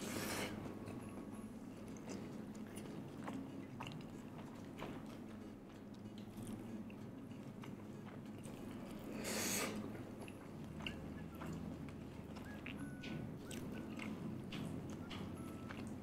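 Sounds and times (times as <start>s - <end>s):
person chewing food: 1.7s - 16.0s.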